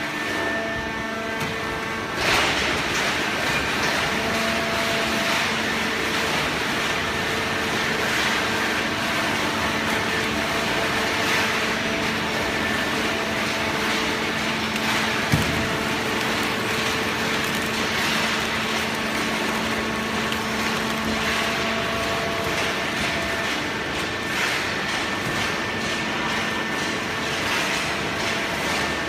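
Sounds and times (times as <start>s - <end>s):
hydraulic baling machine running: 0.1s - 29.0s.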